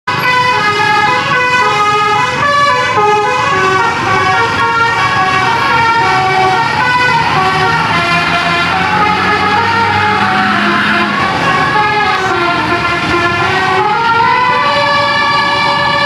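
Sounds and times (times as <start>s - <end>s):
musical bus horn melody: 0.1s - 16.0s.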